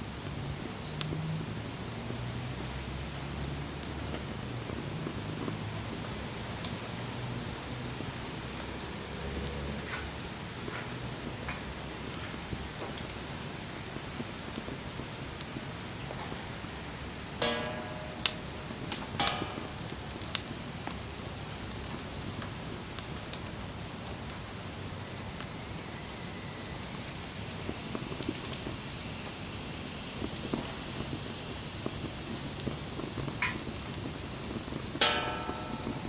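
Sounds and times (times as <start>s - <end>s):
wood campfire crackling: 0.0s - 36.0s.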